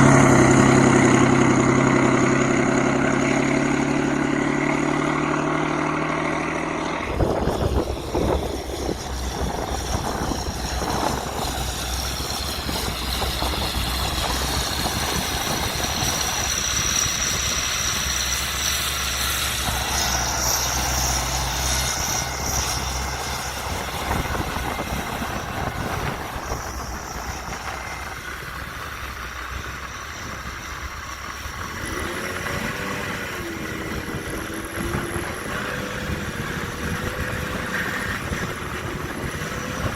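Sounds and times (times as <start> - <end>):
tractor diesel engine rumbling: 0.0 - 39.9.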